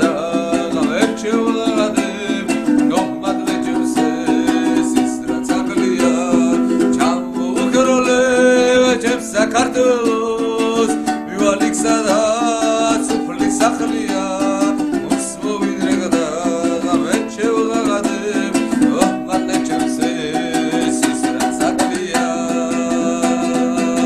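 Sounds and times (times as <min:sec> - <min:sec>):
lute strummed with drone strings: 0:00.0 - 0:24.0.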